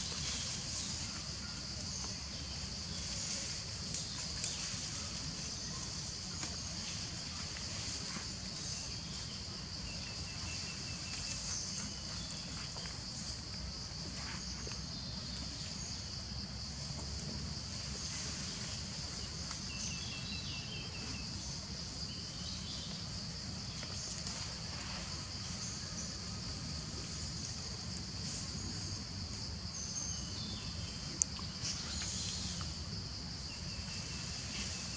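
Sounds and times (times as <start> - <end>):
insect chorus chirring: 0.0 - 34.9.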